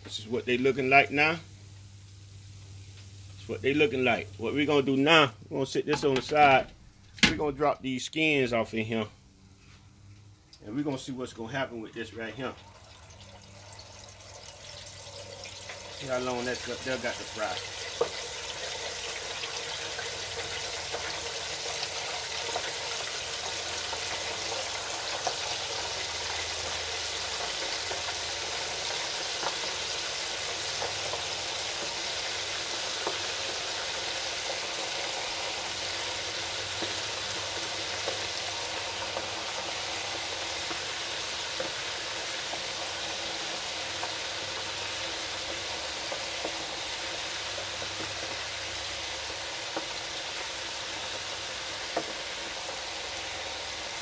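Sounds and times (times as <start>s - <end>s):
hot oil sizzling and bubbling: 0.0s - 7.0s, 9.2s - 54.0s.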